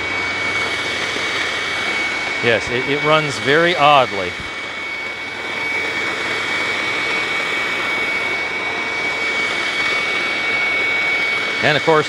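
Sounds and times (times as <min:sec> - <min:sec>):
upright vacuum running on carpet: 0:00.0 - 0:12.0.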